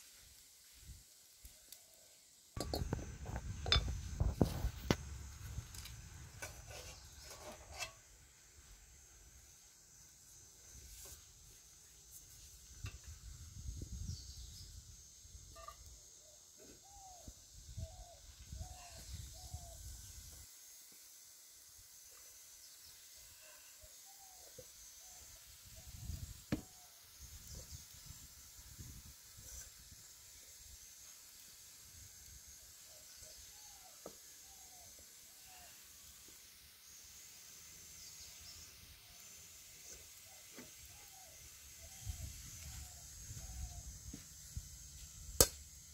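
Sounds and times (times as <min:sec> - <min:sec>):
faint high hiss: 0:00.0 - 0:45.9.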